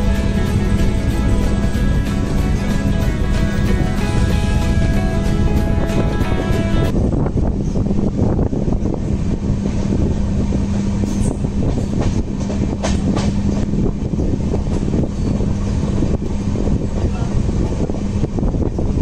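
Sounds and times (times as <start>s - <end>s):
low hum: 0.0s - 19.0s
train wheels rumbling on rails: 0.0s - 19.0s.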